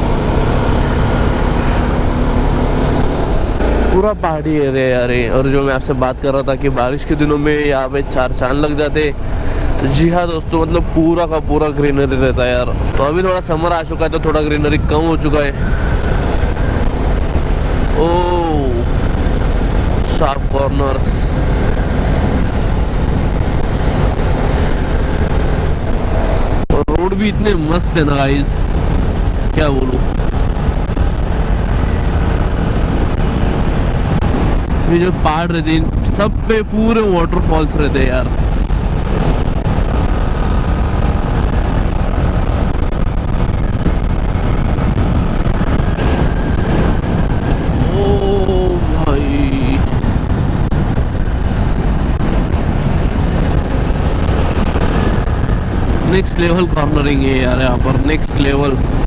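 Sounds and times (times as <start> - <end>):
motorcycle engine and tyre noise: 0.0 - 59.0
wind rushing over microphone: 0.0 - 59.0.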